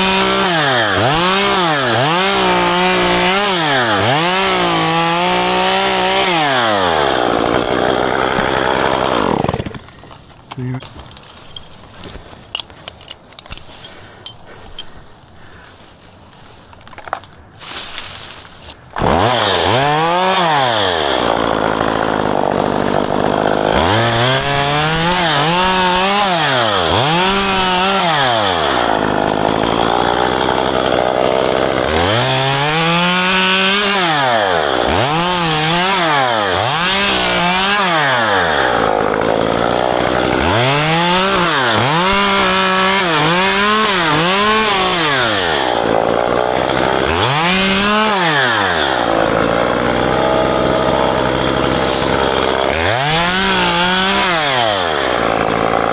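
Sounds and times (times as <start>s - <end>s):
chainsaw revving: 0.0s - 10.0s, 19.0s - 55.9s.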